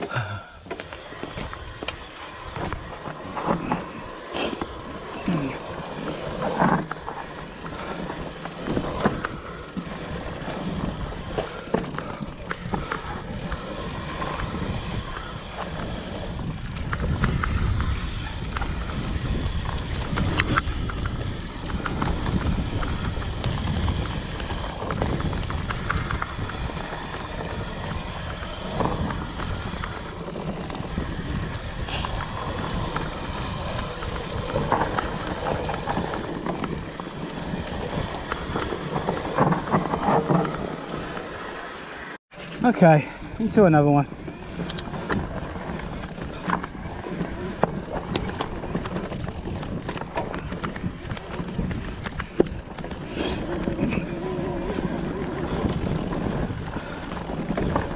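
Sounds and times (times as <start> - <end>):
bike rattling and knocking: 0.1 - 57.9.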